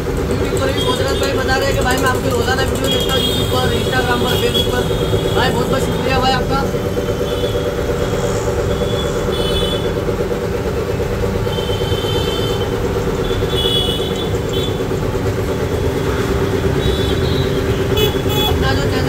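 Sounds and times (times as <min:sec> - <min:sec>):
pistons pumping pulse: 0:00.0 - 0:18.6
air compressor running: 0:00.0 - 0:19.0.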